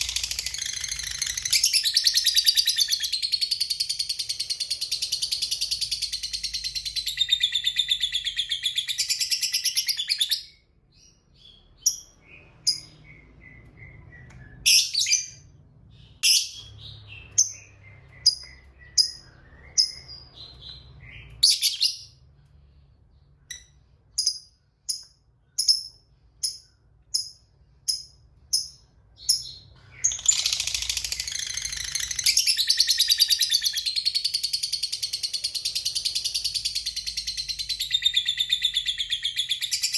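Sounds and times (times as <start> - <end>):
bird sharp chirps and twitters: 0.0 - 39.9.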